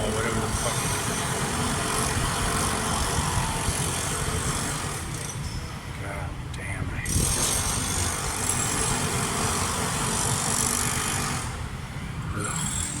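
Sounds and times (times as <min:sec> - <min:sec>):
power tool working concrete: 0:00.0 - 0:05.3, 0:07.1 - 0:11.7, 0:12.4 - 0:13.0.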